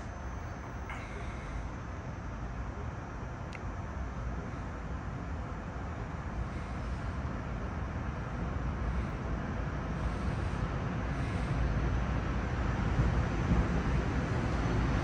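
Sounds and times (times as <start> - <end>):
train rumbling into station: 0.0 - 15.0.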